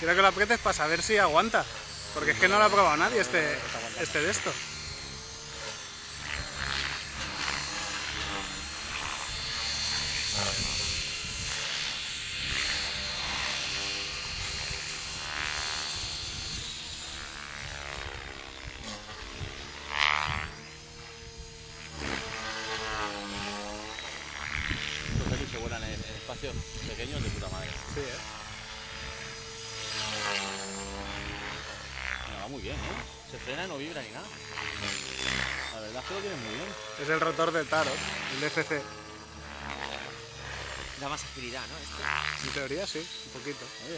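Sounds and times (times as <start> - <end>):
electric motor whining: 0.0 - 43.9
helicopter rotor blades whooshing: 0.0 - 43.9.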